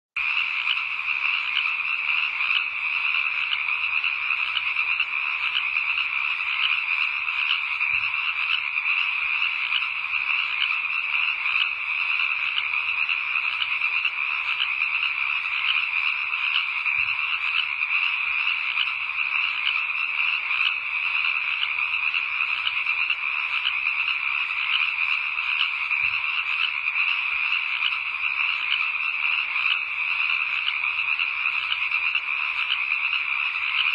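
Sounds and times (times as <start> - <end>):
chorus of frogs calling: 0.2 - 33.9.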